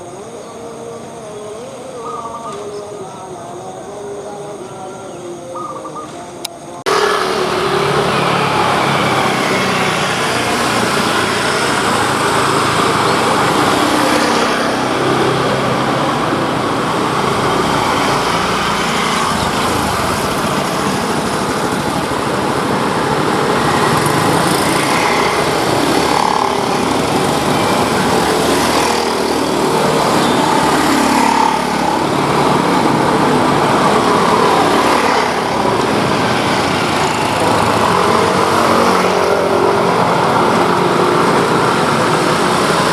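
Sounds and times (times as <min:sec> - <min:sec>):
cars passing: 0:00.0 - 0:42.9
motorcycles passing: 0:00.0 - 0:42.9.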